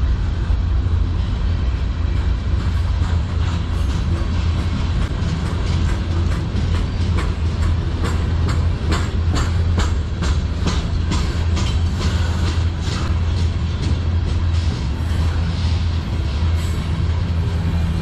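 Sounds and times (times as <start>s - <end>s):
freight train rolling past: 0.0s - 18.0s
wheels clicking over rail joints: 2.1s - 18.0s.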